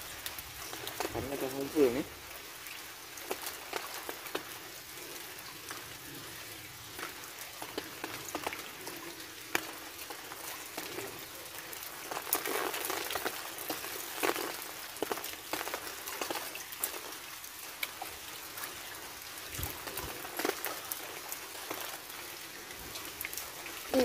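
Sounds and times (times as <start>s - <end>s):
rain falling on water: 0.0s - 24.0s.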